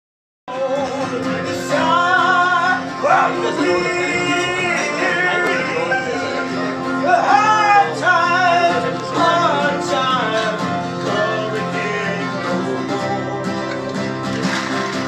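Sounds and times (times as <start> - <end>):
voices singing along: 0.5 - 14.3
acoustic guitars playing a tune: 0.5 - 15.0.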